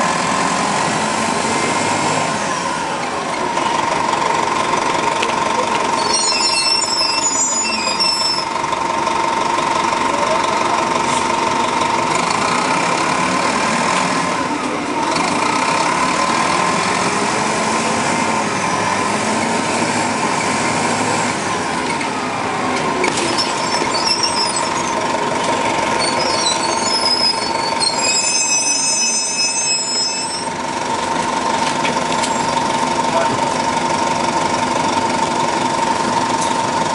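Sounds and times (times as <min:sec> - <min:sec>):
bus diesel engine: 0:00.0 - 0:36.9.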